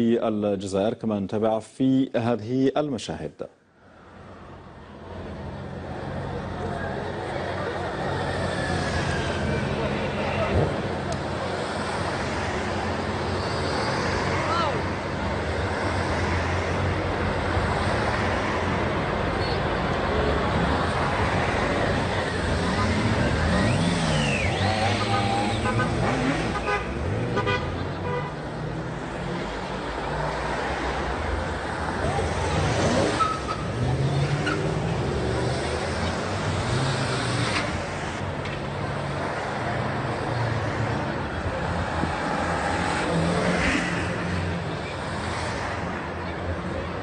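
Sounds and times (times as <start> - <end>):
engine and road noise rumble: 0.0 - 47.0
cars driving past: 3.8 - 47.0
crowd voices: 5.9 - 15.5, 18.7 - 47.0.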